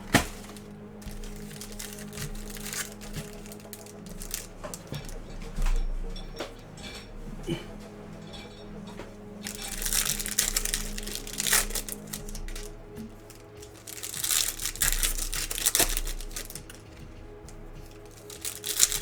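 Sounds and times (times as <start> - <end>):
background music: 0.0 - 19.0
foil wrappers crinkling and tearing: 0.0 - 19.0.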